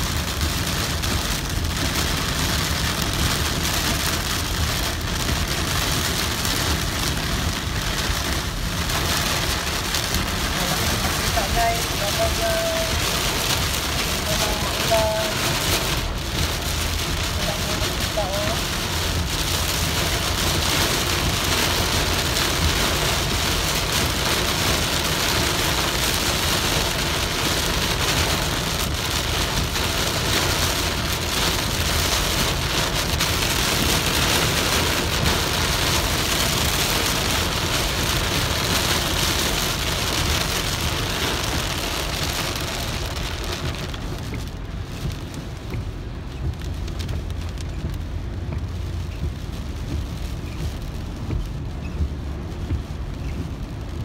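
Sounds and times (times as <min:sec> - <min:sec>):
heavy rain on car roof: 0:00.0 - 0:54.0
low road rumble: 0:00.0 - 0:54.0.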